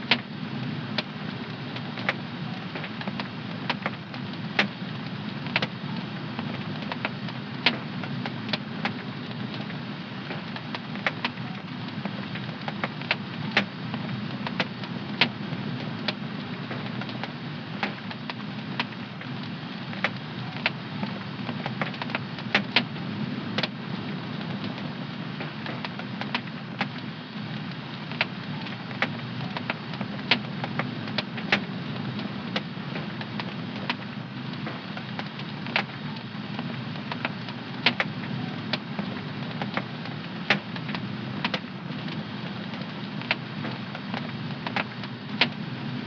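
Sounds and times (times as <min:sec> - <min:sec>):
fireplace fire crackling: 0:00.0 - 0:46.0.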